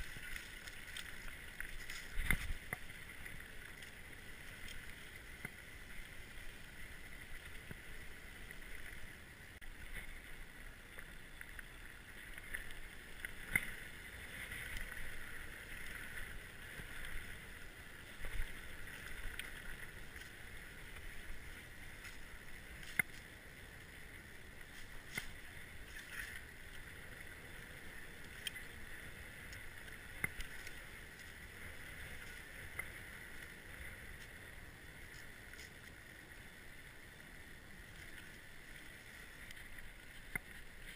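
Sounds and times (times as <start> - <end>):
bike tyre and drivetrain noise: 0.0 - 40.9.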